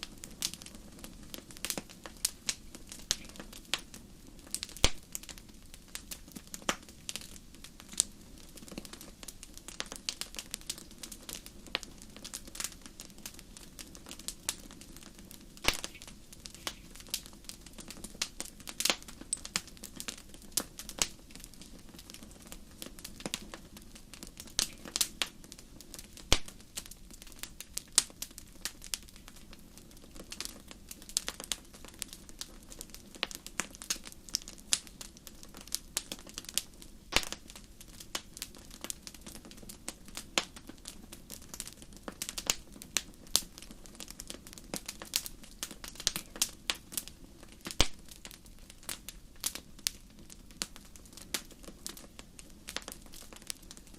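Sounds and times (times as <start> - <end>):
flames burning: 0.0 - 53.9
wood fire snapping and popping: 0.0 - 53.9.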